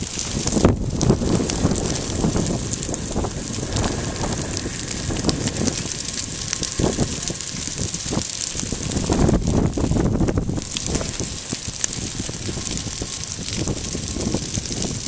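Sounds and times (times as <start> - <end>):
fire crackling: 0.0 - 15.0
fire rushing noise: 0.0 - 15.0
wind buffeting microphone: 0.0 - 15.0.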